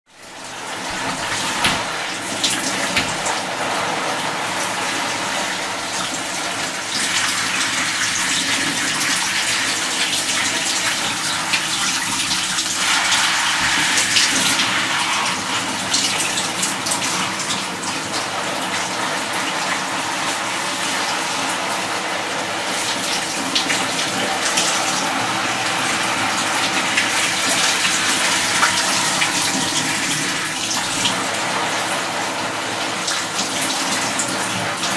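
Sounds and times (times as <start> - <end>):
water running: 0.1 - 34.9.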